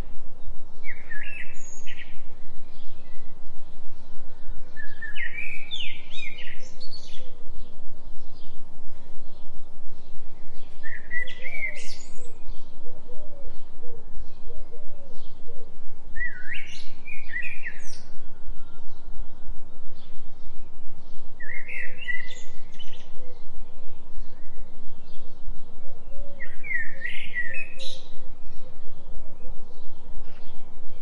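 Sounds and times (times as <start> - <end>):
songbird chirps: 0.0 - 31.0.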